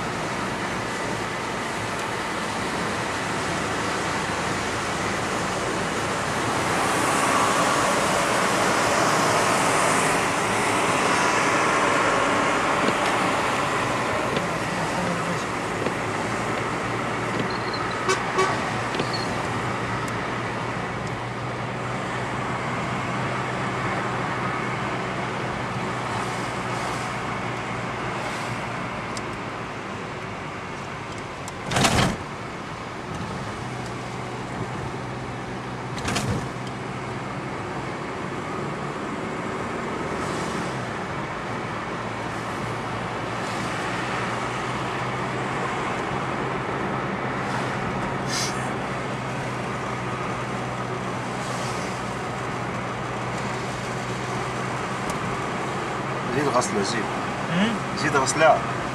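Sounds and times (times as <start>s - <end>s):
car engine hum: 0.0s - 58.9s
road and tyre noise: 0.0s - 58.9s.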